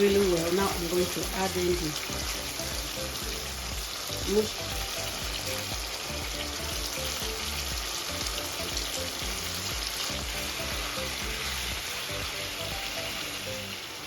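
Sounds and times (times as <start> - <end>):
background music: 0.0 - 14.0
sauce sizzling in a saucepan: 0.0 - 14.0.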